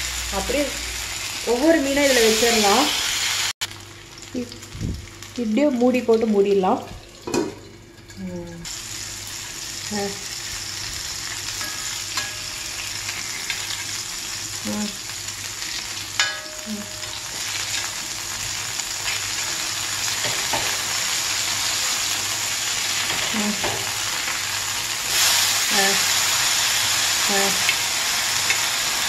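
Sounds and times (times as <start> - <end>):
fish sizzling in oil: 0.0 - 29.0.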